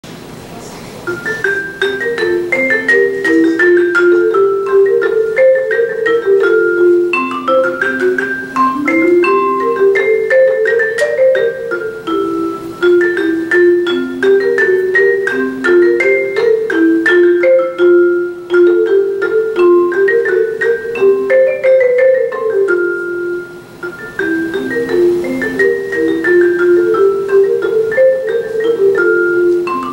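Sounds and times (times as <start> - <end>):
mallet percussion melody: 0.9 - 29.9.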